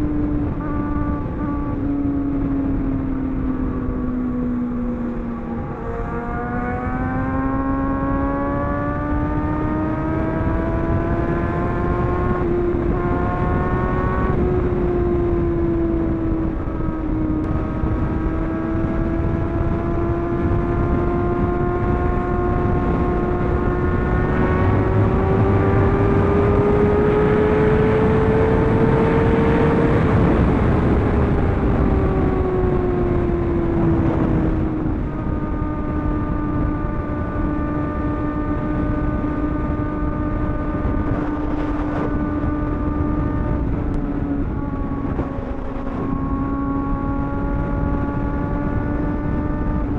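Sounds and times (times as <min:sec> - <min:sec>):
rush of wind noise: 0:00.0 - 0:49.9.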